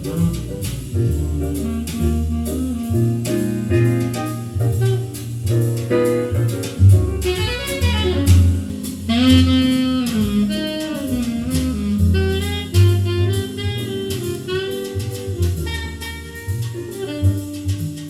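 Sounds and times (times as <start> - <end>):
jazz music: 0.0 - 18.0.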